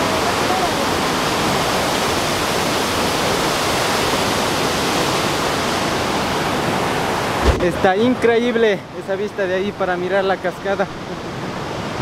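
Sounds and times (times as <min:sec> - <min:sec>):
waterfall crashing: 0:00.0 - 0:12.0.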